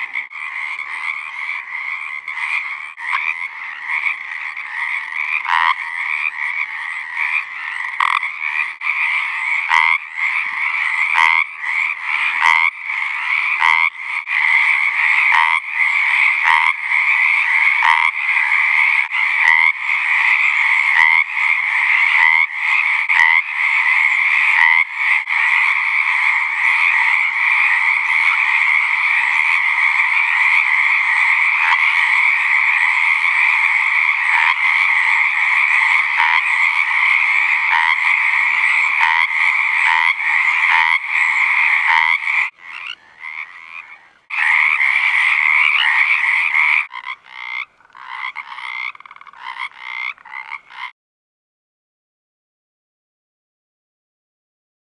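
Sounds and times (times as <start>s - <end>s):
chorus of tree frogs: 0.0s - 51.0s.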